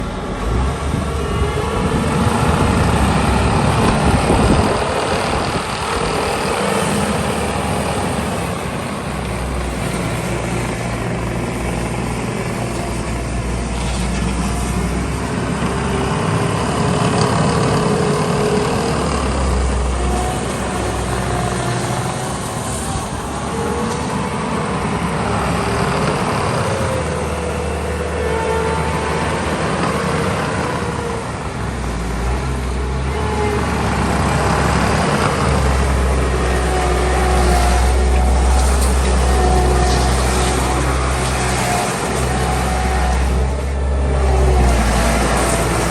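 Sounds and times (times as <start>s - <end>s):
diesel engine running: 0.0s - 45.9s
whining tones: 0.0s - 45.9s.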